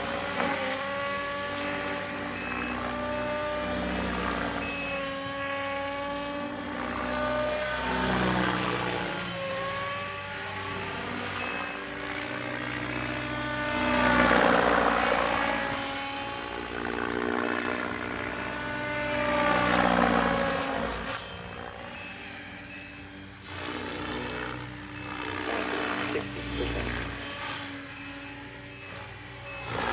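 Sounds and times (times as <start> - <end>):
helicopter motor and rotor whine: 0.0 - 29.9.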